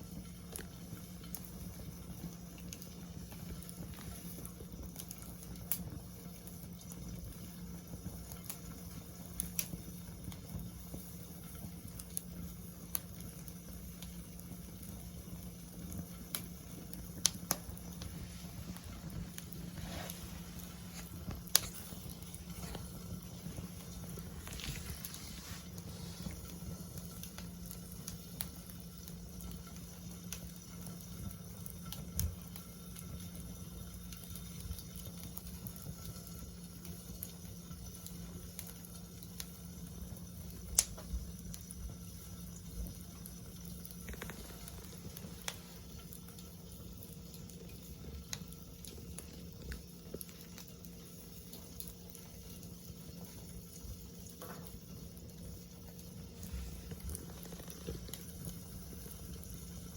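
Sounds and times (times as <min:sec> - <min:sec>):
fire crackling and popping: 0:00.0 - 0:59.9
wood fire hissing: 0:00.0 - 0:59.9.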